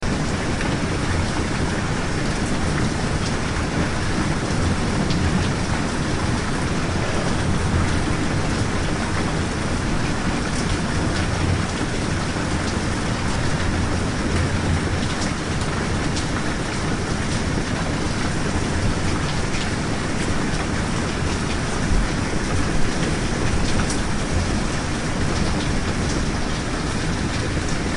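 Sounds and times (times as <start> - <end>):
rain falling: 0.0 - 27.9.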